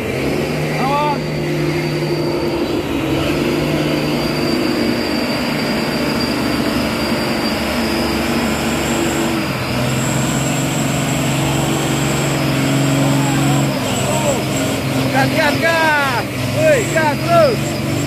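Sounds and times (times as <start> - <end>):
diesel truck engine working hard: 0.0 - 18.0
thin high whine: 0.8 - 15.6.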